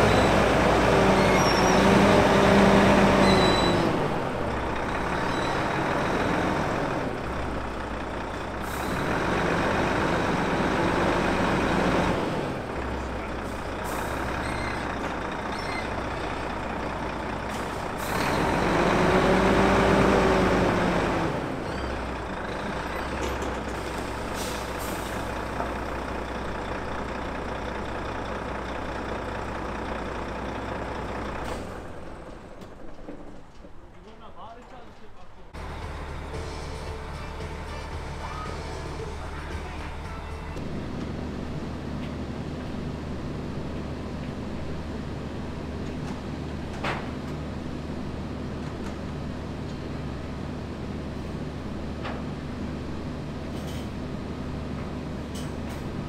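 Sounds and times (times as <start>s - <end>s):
lorry diesel engine revving: 0.0s - 32.5s, 35.5s - 56.0s.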